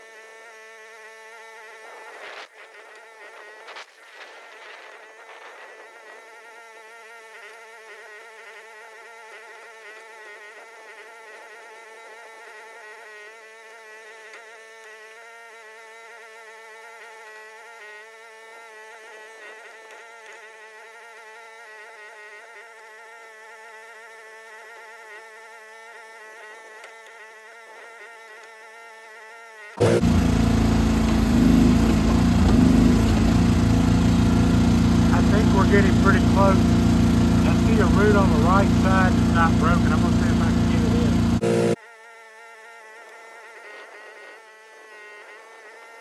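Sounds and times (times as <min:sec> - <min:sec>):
small engine buzzing drone: 0:00.0 - 0:46.0.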